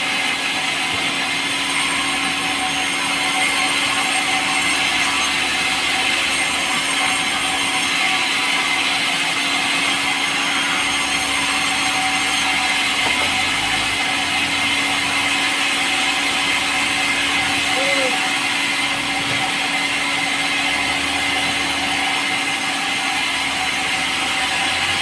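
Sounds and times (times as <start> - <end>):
power saw cutting wood: 0.0 - 25.0.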